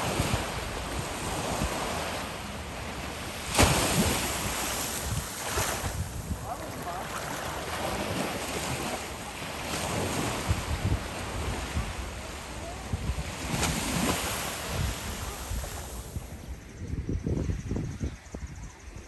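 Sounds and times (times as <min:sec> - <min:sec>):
ocean surf washing in: 0:00.0 - 0:16.5
wind buffeting microphone: 0:00.0 - 0:19.0.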